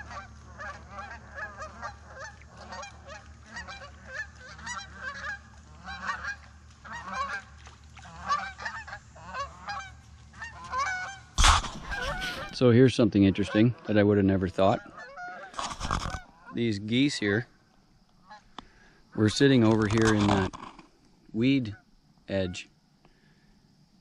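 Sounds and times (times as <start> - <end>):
geese honking: 0.0 - 17.4, 18.2 - 20.5.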